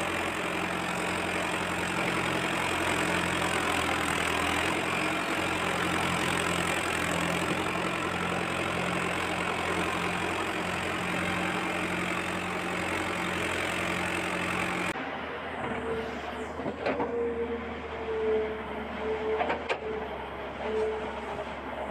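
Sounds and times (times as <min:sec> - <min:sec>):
tractor engine idling: 0:00.0 - 0:21.9.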